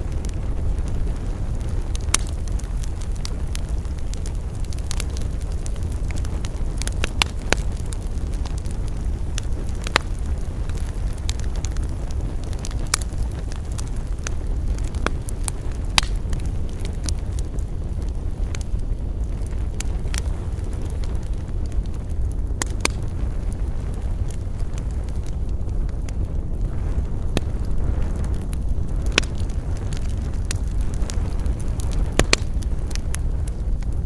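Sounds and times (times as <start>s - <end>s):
low rumble of fire: 0.0s - 34.0s
wood fire crackling: 0.0s - 34.0s.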